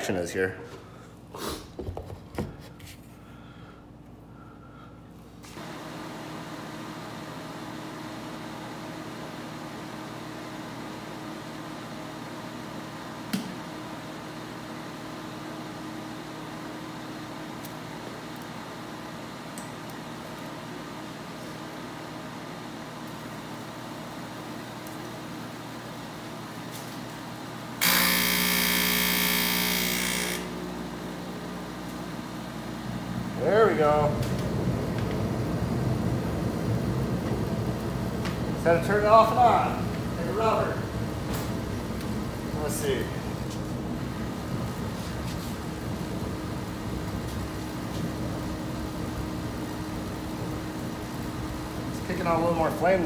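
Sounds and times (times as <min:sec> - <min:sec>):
heater motor humming and hissing: 0:02.4 - 0:53.0.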